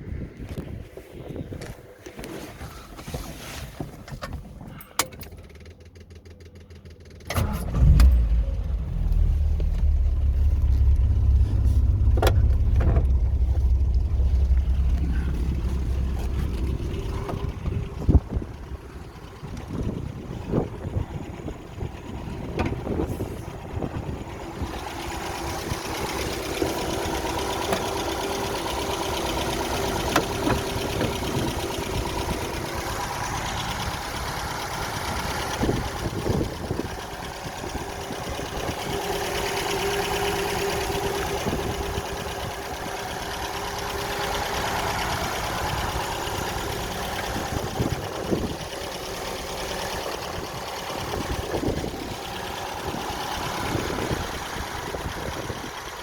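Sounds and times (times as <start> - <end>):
car engine idling: 3.9 - 56.0.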